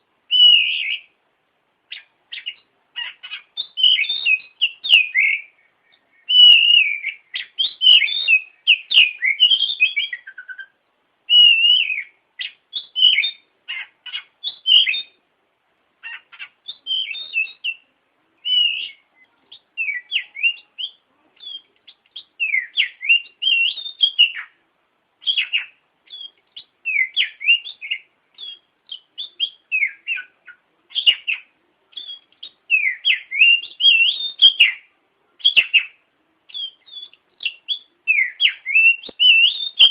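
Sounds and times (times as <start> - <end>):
bird singing whistled notes: 0.3 - 1.2, 1.9 - 15.2, 16.0 - 24.6, 25.2 - 39.9.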